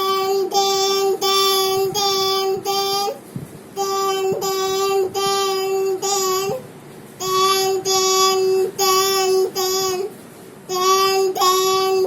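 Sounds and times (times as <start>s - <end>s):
child singing aah notes: 0.0s - 12.0s.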